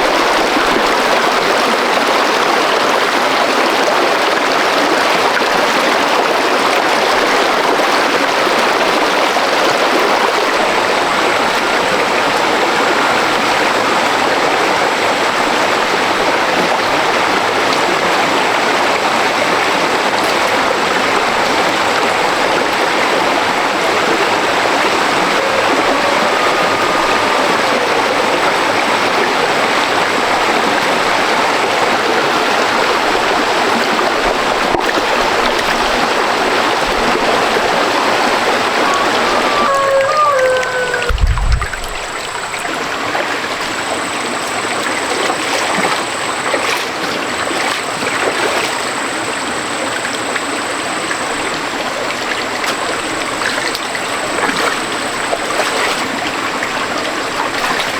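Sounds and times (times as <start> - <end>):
stream water rushing over rocks: 0.0 - 57.9.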